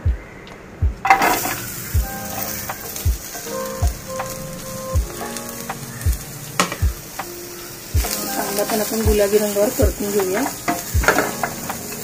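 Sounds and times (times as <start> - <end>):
background music with low beat: 0.0 - 12.0
onions sizzling in a pan: 1.1 - 12.0.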